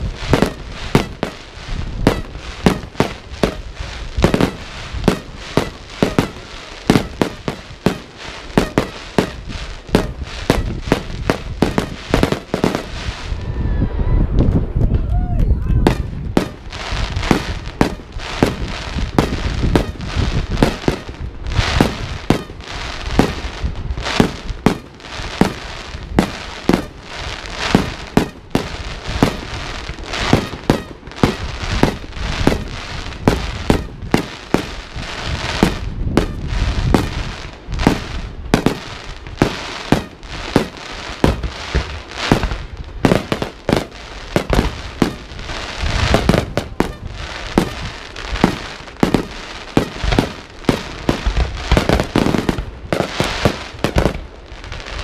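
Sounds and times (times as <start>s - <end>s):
fireworks bursting with sharp bangs: 0.0s - 15.0s, 15.7s - 55.0s
low rumble of booms: 0.0s - 27.0s, 27.7s - 53.2s.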